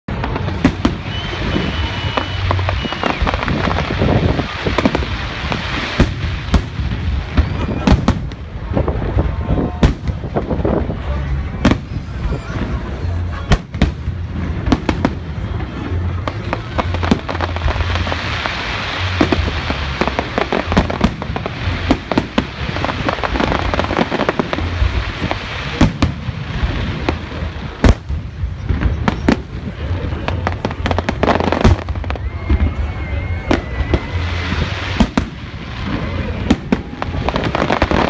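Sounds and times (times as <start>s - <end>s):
firework bangs: 0.1s - 38.0s
firework crackling: 0.1s - 38.0s.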